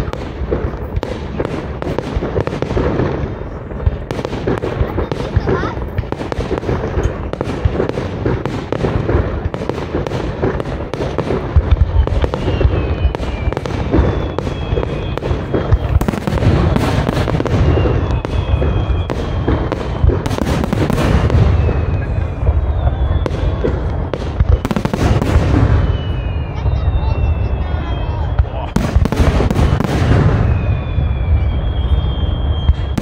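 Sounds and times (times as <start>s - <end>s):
fireworks bursting and crackling: 0.0s - 33.0s
fireworks whistling: 0.0s - 33.0s.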